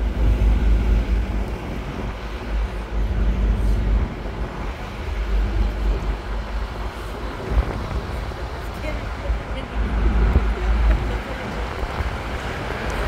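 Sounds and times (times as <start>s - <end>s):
bus engine: 0.0s - 13.0s
passing traffic: 0.0s - 13.0s.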